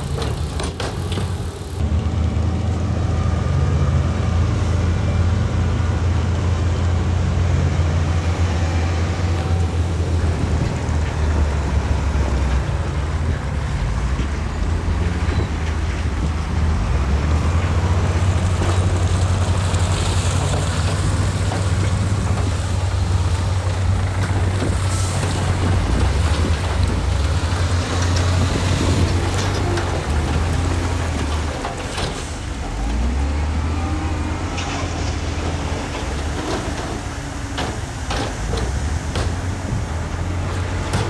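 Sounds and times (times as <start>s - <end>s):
heavy machinery diesel engine rumbling: 0.0s - 41.0s.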